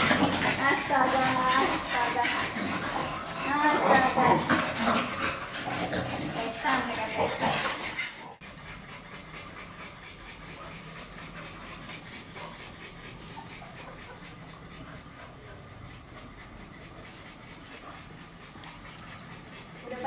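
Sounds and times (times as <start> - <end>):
dogs panting softly: 0.0 - 20.0.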